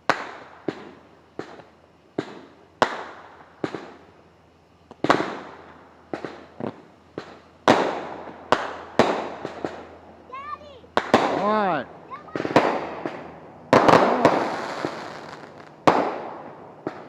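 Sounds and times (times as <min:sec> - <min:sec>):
fireworks banging with echo: 0:00.0 - 0:04.1, 0:04.9 - 0:17.0.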